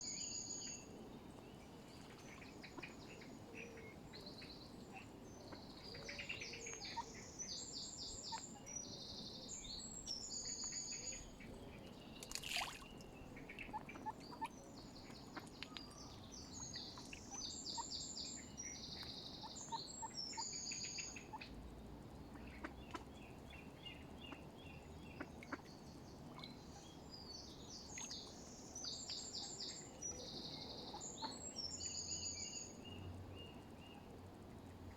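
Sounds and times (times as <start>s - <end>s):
low background hum: 0.1s - 34.9s.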